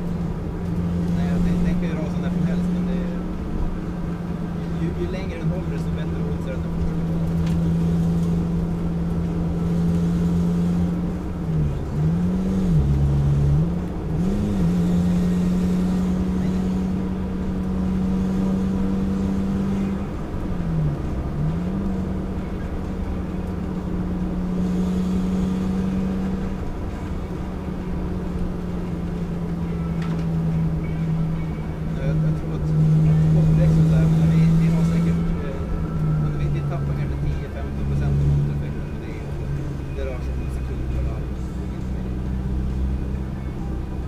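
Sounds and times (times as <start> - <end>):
car engine droning: 0.0 - 44.0
road noise: 0.0 - 44.0.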